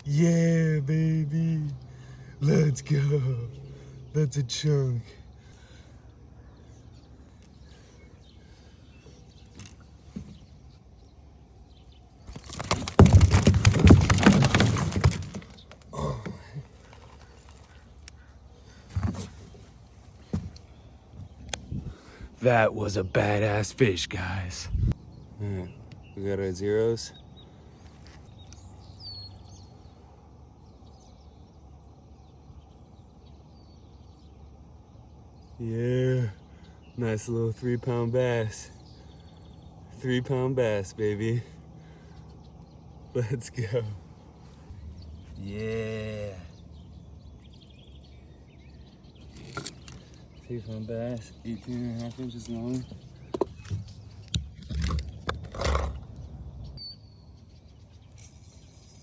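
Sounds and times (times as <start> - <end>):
bird chirp: 0.0 - 59.0.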